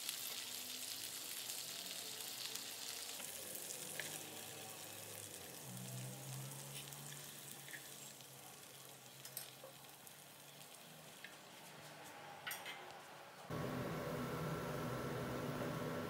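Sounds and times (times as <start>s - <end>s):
oil sizzling: 0.0s - 12.2s, 13.5s - 16.0s.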